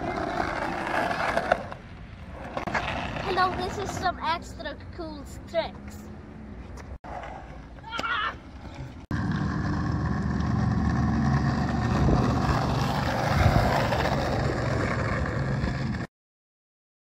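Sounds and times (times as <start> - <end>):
skateboard wheels rumbling on concrete: 0.0 - 4.7, 6.7 - 16.1.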